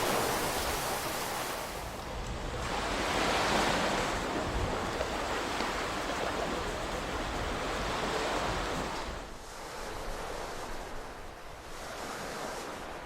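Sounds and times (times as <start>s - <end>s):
ocean waves washing ashore: 0.0s - 13.0s.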